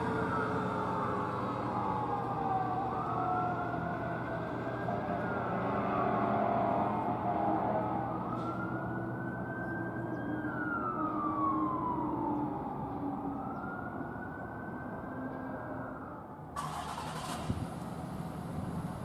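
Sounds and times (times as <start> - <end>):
siren wailing: 0.0 - 17.4
engine and road rumble: 0.0 - 19.0.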